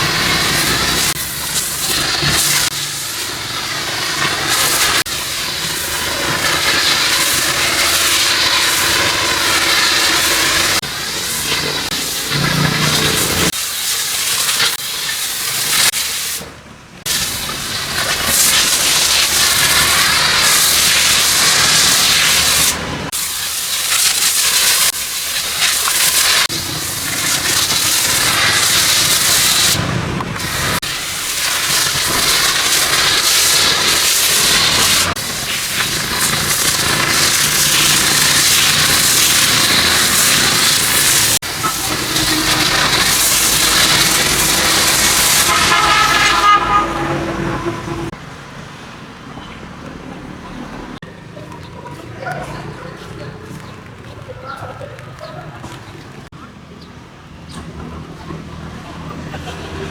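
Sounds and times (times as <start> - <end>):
pressure washer spraying water: 0.0 - 48.7.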